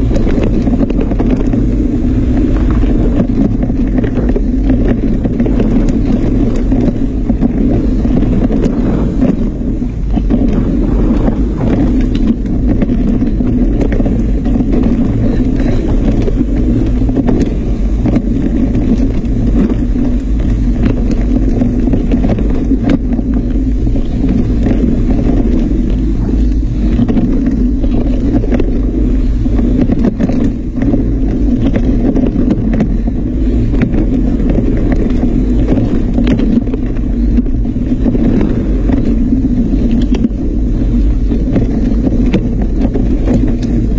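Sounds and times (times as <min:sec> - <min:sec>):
bike rattling and knocking: 0:00.0 - 0:43.9
wind and tyre rumble: 0:00.0 - 0:43.9.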